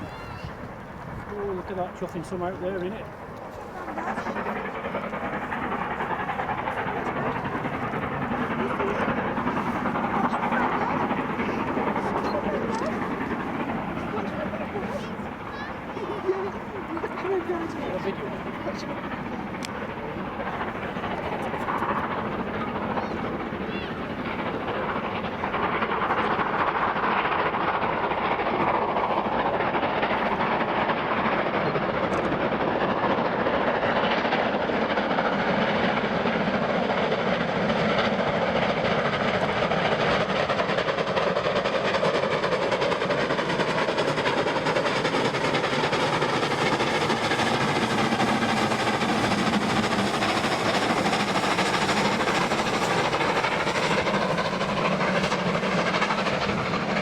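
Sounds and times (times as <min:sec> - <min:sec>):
coaches running on rails: 0:00.0 - 0:57.0
steam train passing: 0:00.0 - 0:57.0.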